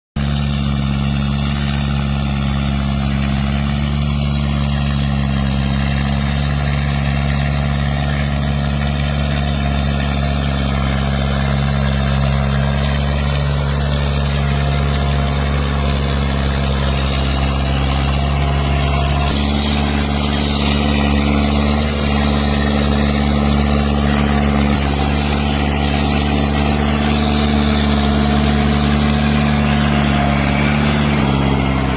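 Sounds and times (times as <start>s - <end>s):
tractor diesel engine running: 0.2s - 31.9s.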